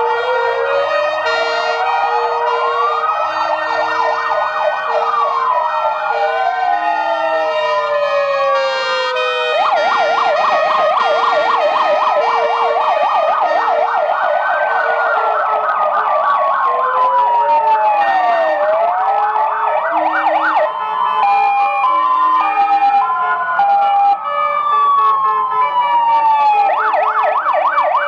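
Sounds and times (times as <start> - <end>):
fast yelping sirens: 0.0 - 28.0
wailing sirens: 0.0 - 28.0.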